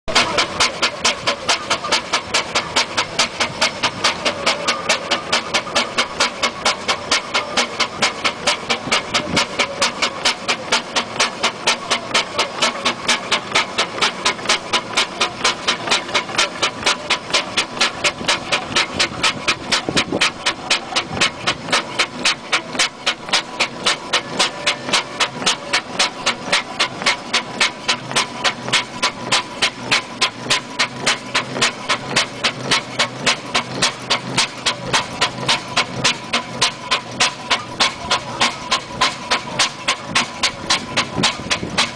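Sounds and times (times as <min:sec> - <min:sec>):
steam roller exhaust chuffing: 0:00.0 - 0:41.9.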